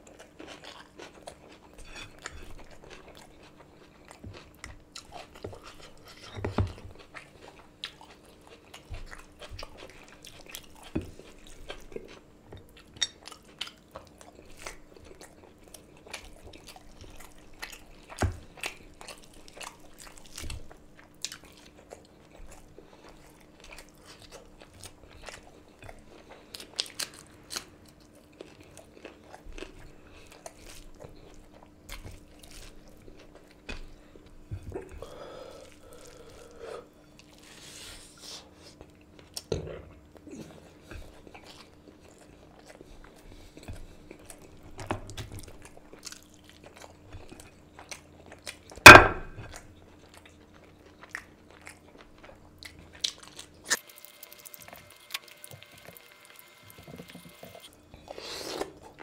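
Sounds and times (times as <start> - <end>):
chewing and mouth smacks: 0.0 - 35.0, 38.8 - 59.0
faint steady hum: 0.0 - 59.0.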